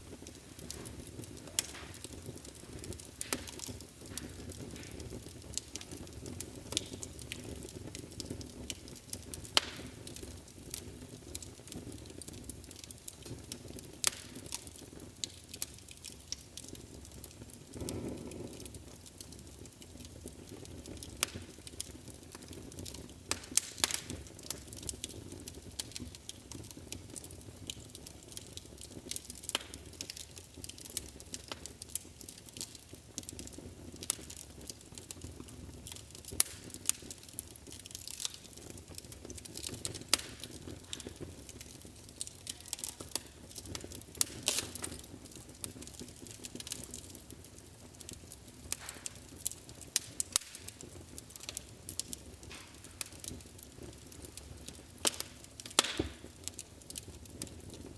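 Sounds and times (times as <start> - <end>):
fire crackles and pops: 0.0 - 57.9
low rumble of flames: 0.0 - 57.9.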